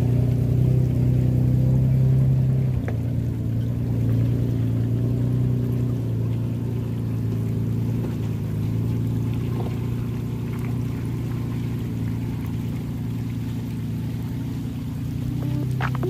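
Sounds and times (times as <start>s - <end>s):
truck engine running at low revs: 0.0s - 16.0s.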